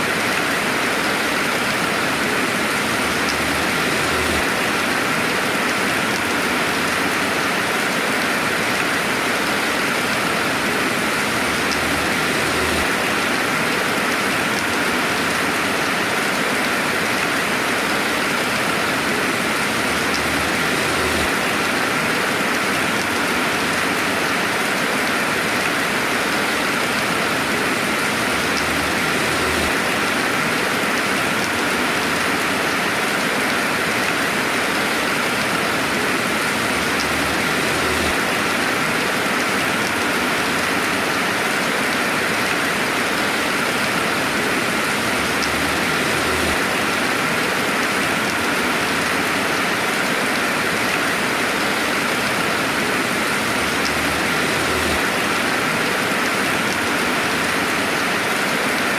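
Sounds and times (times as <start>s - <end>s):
steady rainfall hiss: 0.0s - 58.9s.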